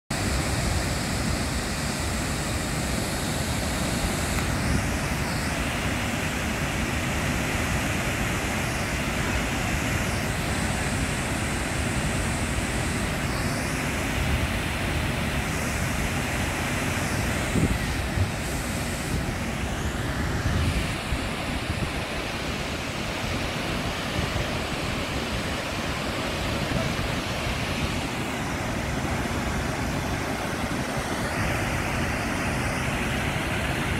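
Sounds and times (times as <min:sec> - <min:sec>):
water rushing over dam wall: 0:00.1 - 0:33.9.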